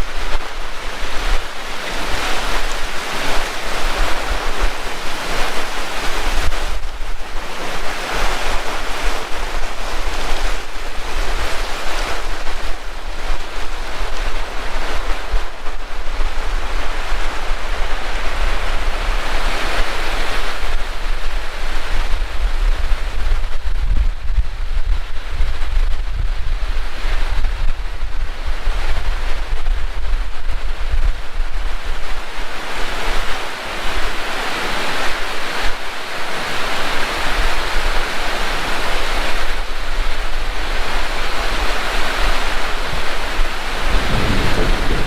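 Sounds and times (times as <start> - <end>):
heavy rain pouring: 0.0 - 45.0
wind buffeting microphone: 0.0 - 45.0.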